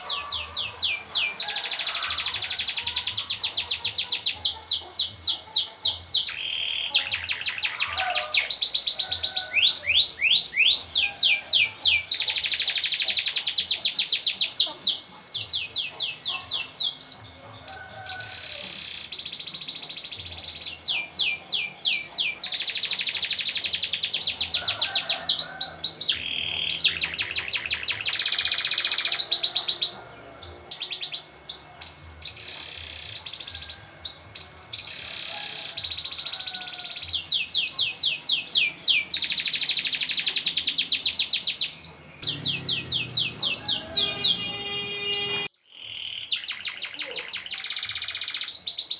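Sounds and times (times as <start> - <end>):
canary singing rolling trills: 0.0 - 48.9.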